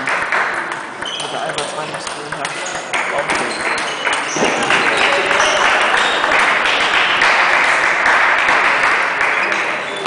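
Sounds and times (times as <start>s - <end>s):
crowd clapping: 0.0s - 1.0s, 2.3s - 10.0s.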